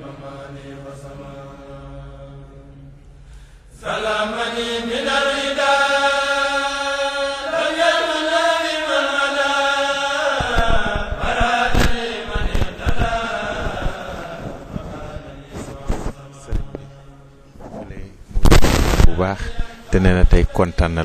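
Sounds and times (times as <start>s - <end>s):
person chanting religious poem: 0.0s - 2.9s, 3.7s - 18.1s, 18.9s - 21.0s.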